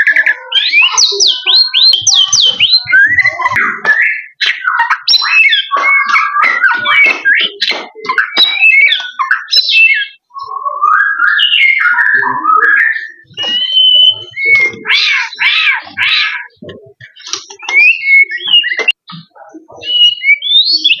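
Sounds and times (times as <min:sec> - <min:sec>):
bird singing whistled phrases: 0:00.0 - 0:15.6, 0:17.2 - 0:19.0, 0:19.7 - 0:21.0.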